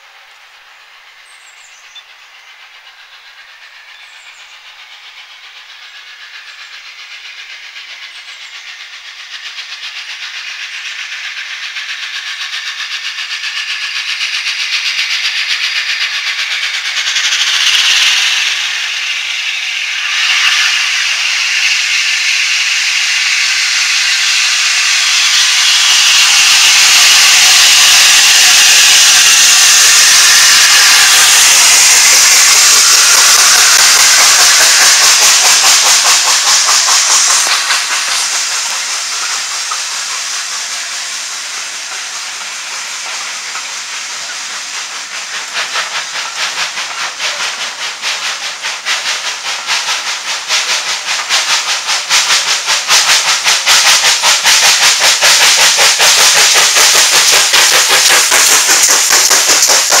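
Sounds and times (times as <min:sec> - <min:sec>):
steam locomotive hissing: 0:00.0 - 1:00.0
train wheels clicking: 0:00.0 - 1:00.0.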